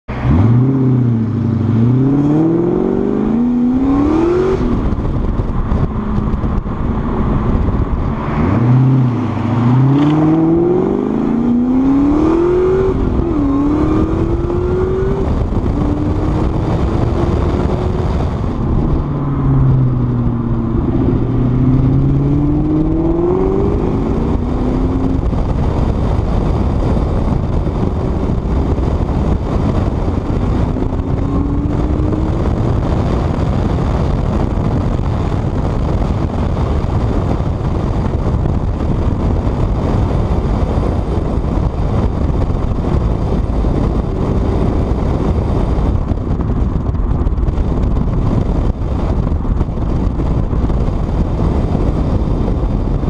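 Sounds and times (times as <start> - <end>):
car engine accelerating: 0.1 - 53.0.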